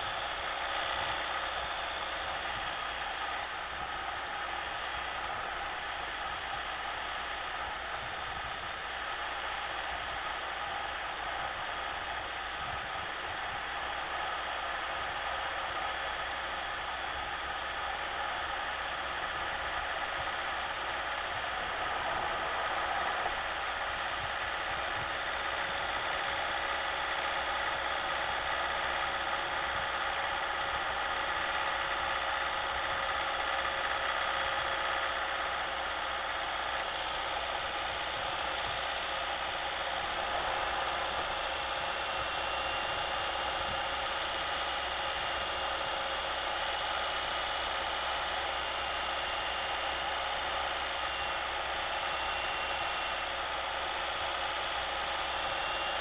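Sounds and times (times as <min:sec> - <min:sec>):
van engine running: 0:00.0 - 0:56.0.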